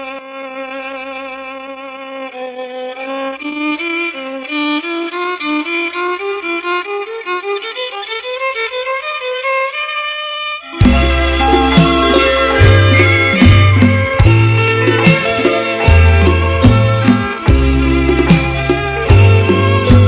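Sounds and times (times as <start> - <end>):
bowed string instrument melody: 2.2 - 20.0.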